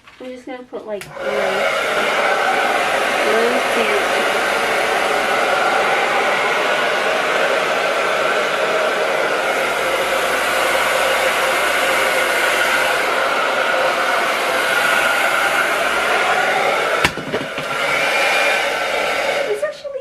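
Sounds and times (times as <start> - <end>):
hair dryer blowing: 0.9 - 20.0.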